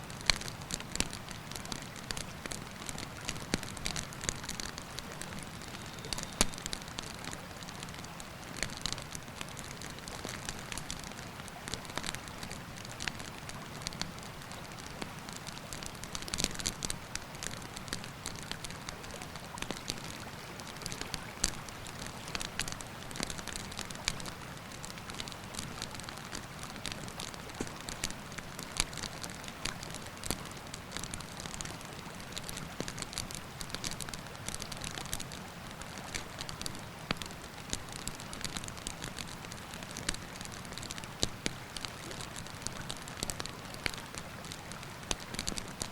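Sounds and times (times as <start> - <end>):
campfire crackling: 0.1 - 45.9.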